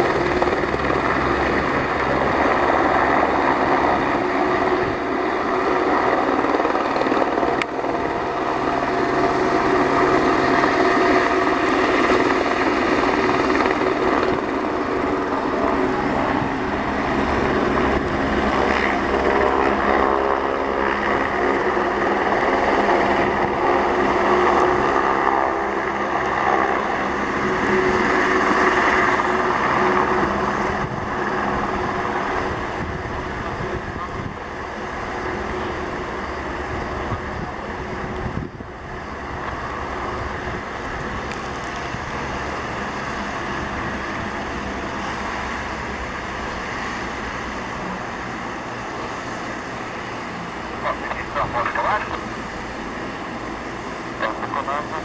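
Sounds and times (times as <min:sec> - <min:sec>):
helicopter rotor and turbine engine: 0:00.0 - 0:55.0.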